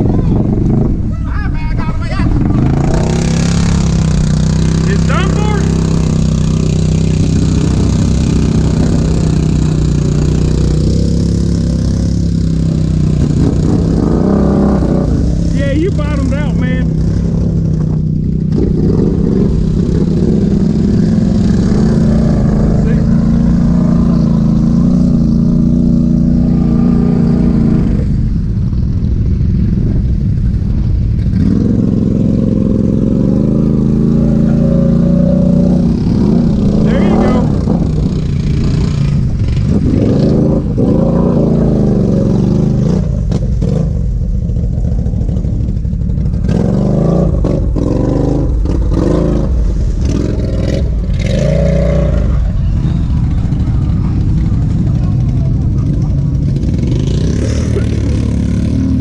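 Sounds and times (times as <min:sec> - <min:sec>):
atv engine running loudly: 0:00.0 - 0:59.0.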